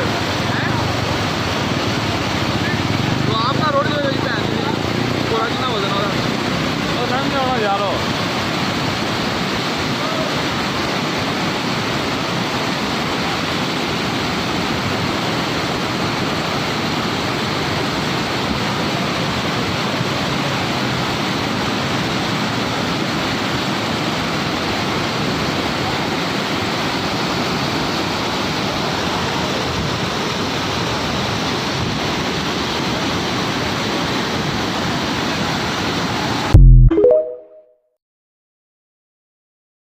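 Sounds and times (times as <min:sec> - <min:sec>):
fast-flowing water rushing: 0:00.0 - 0:37.3.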